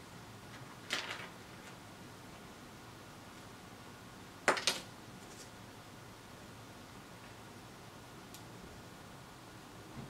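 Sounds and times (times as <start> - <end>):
faint room tone hiss: 0.0 - 10.0.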